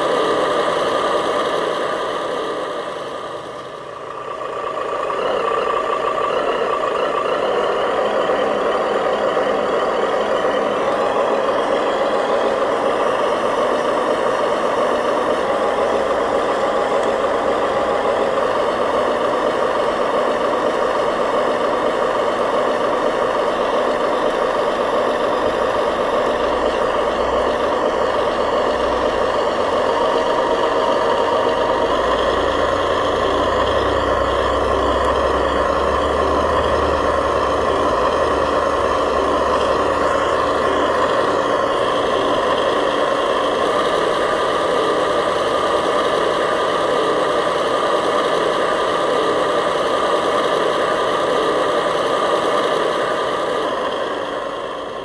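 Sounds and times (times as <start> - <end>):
toy truck engine running: 0.0 - 55.0.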